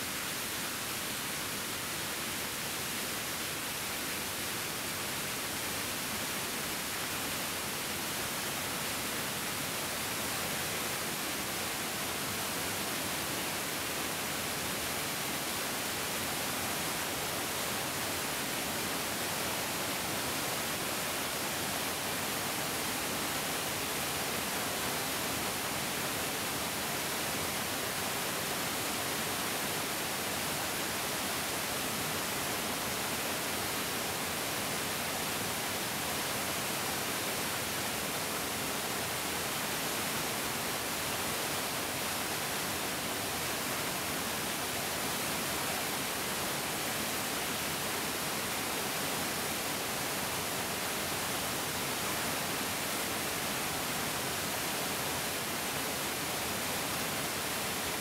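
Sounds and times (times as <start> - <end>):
mountain stream rushing: 0.0 - 58.0.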